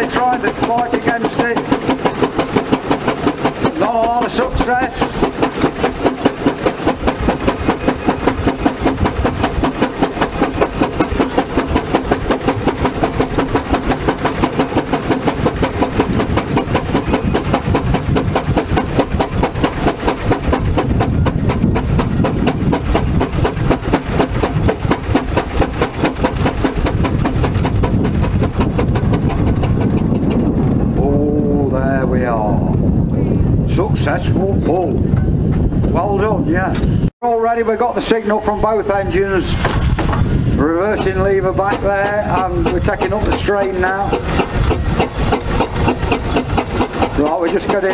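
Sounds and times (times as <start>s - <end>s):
steam engine exhaust beating: 0.0s - 47.9s.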